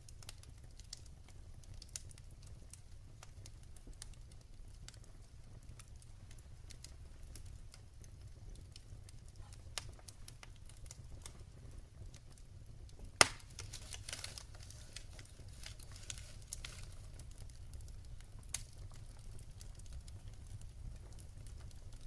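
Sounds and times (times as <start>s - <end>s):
fire popping: 0.0s - 22.0s
wood fire rumbling and crackling: 0.0s - 22.0s.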